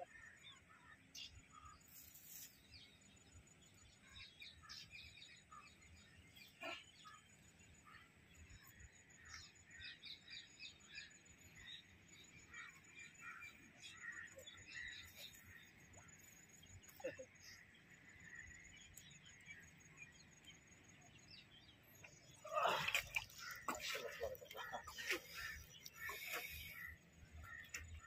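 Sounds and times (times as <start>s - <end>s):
bird chirps: 4.0s - 28.0s.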